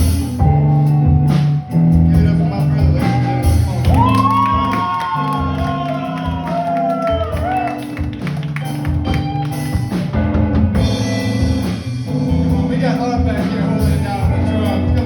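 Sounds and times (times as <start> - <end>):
bass line: 0.0 - 15.0
guitar chords: 0.0 - 15.0.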